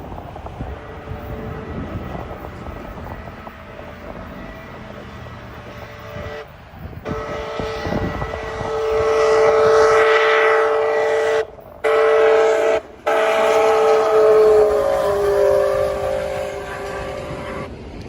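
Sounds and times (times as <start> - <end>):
locomotive air horn: 0.4 - 17.8.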